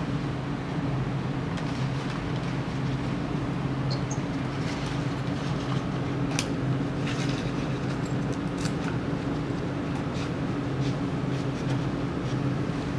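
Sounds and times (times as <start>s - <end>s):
low mechanical hum: 0.0s - 12.9s.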